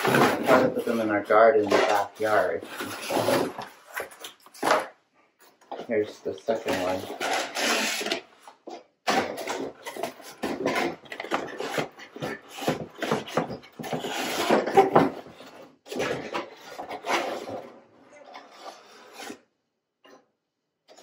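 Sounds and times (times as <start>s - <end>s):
cardboard rustling and scraping: 0.0s - 4.9s, 5.7s - 8.3s, 9.1s - 19.4s.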